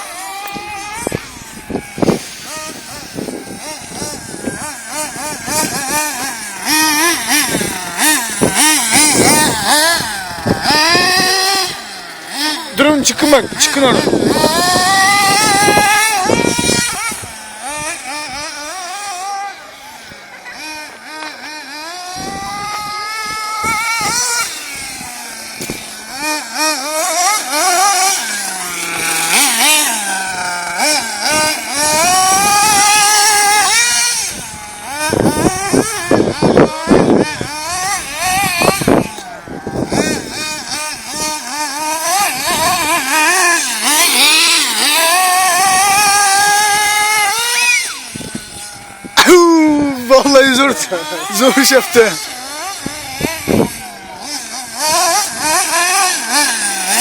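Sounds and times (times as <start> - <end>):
small nitro engine revving: 0.0 - 57.0.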